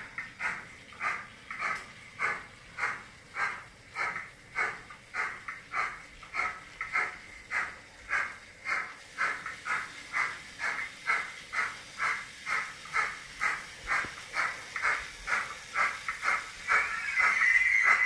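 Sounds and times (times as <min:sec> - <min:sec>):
model locomotive steam chuffs: 0:00.0 - 0:18.0.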